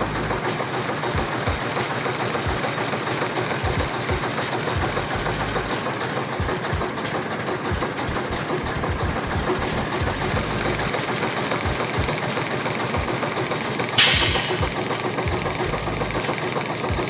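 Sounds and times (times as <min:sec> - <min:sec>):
diesel engine running roughly: 0:00.0 - 0:17.0.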